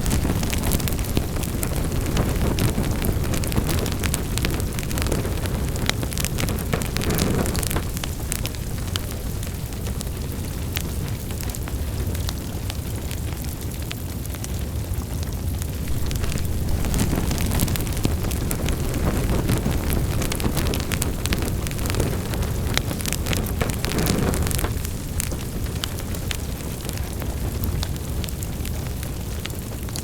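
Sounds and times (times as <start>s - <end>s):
fire flames rumbling: 0.0s - 30.0s
wood fire crackling and popping: 0.0s - 30.0s.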